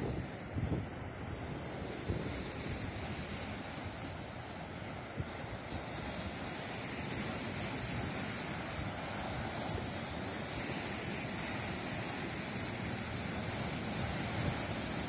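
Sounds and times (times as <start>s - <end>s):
sea surf washing over rocks: 0.0s - 15.0s.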